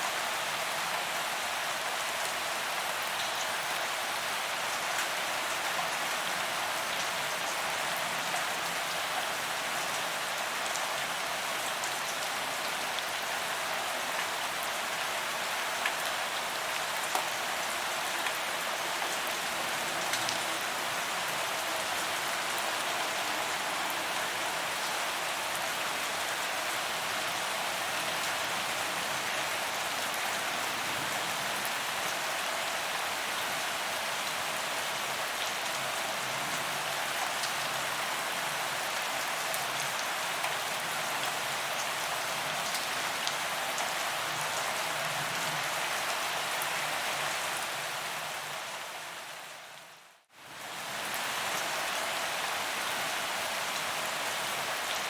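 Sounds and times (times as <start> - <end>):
rain on pavement: 0.0 - 55.0.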